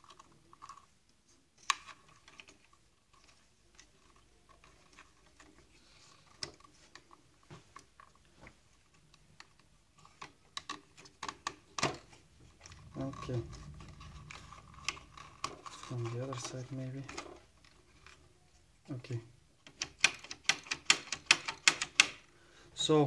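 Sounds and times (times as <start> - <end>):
small parts clicking and tapping: 0.0 - 8.2, 8.8 - 18.3, 19.6 - 22.3.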